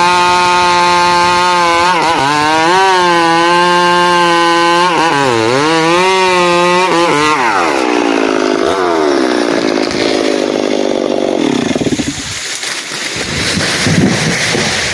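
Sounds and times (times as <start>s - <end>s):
chainsaw engine revving: 0.0s - 14.9s.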